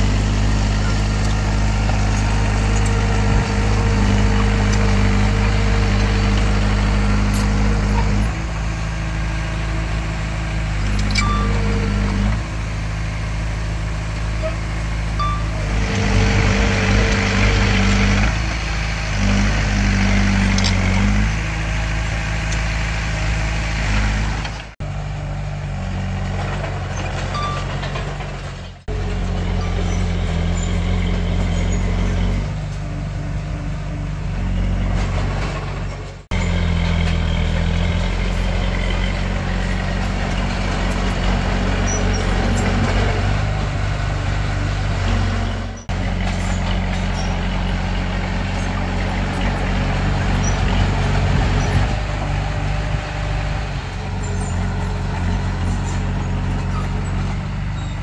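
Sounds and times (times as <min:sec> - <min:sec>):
diesel engines of earthmoving machines: 0:00.0 - 0:58.0.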